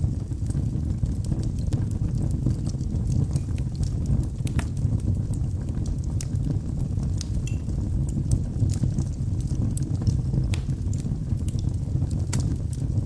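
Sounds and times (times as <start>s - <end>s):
fire crackling and popping: 0.0s - 13.0s
fire flame rumble: 0.0s - 13.0s.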